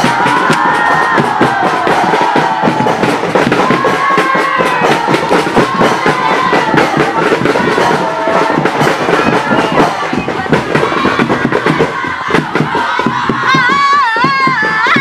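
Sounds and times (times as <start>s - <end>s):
crowd singing and chanting: 0.0s - 15.0s
hand percussion beat: 0.0s - 15.0s.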